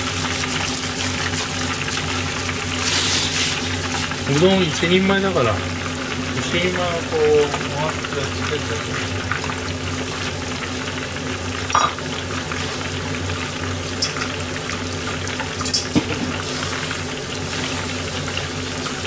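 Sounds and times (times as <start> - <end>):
oil sizzling and crackling: 0.0 - 19.0.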